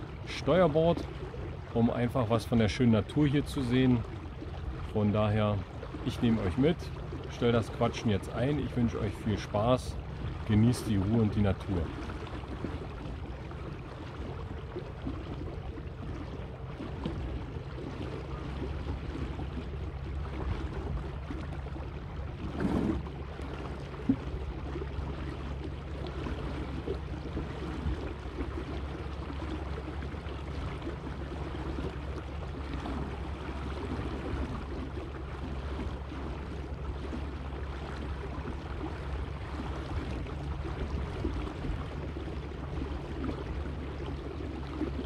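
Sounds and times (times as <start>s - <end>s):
electric outboard motor hum: 0.0s - 45.0s
water lapping against boat hull: 0.0s - 45.0s.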